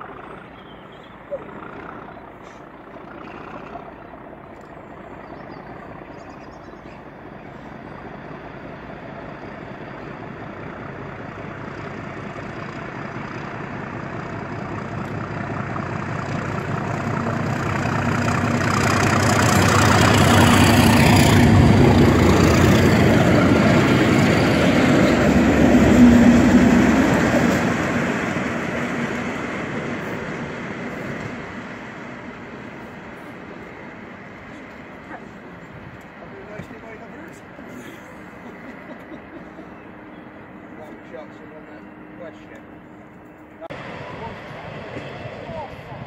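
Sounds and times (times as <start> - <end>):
diesel locomotive engines approaching: 0.0 - 46.0.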